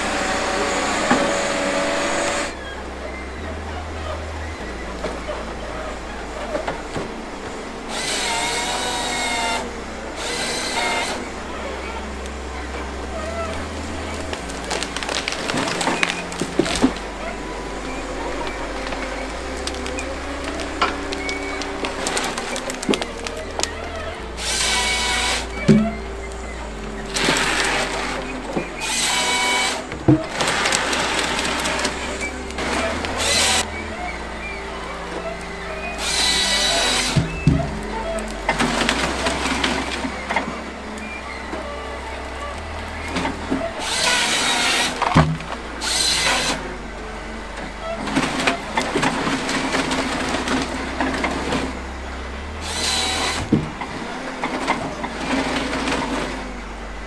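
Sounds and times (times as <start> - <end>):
loud whining grind: 0.0 - 57.0
wood machine low hum: 0.0 - 57.0.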